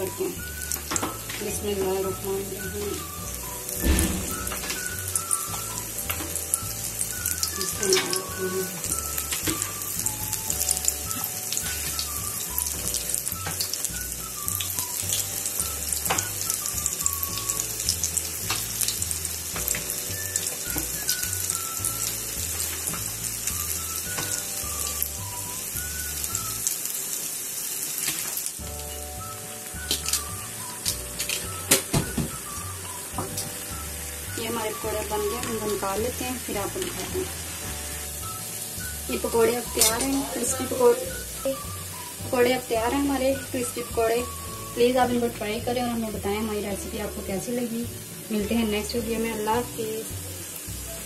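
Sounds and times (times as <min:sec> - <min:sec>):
soft background music: 0:00.0 - 0:27.1, 0:28.6 - 0:51.0
batter sizzling in hot oil: 0:00.0 - 0:51.0.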